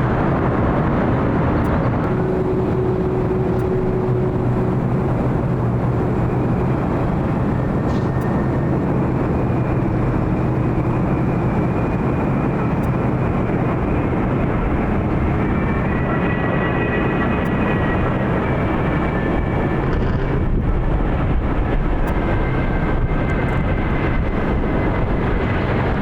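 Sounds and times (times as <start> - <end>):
faint high engine whine: 0.0 - 26.0
jet engines roaring: 0.0 - 26.0.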